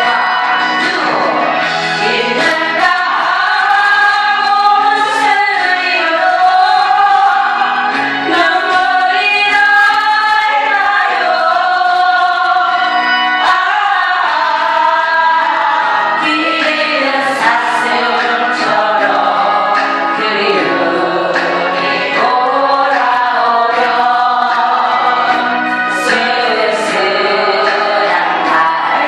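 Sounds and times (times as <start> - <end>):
instrumental accompaniment: 0.0 - 29.0.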